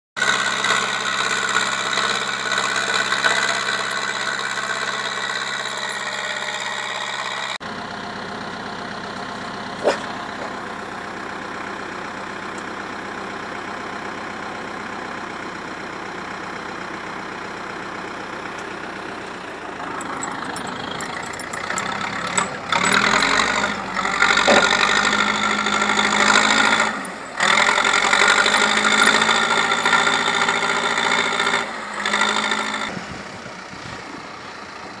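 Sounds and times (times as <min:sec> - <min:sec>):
tractor diesel engine running: 0:00.2 - 0:35.0.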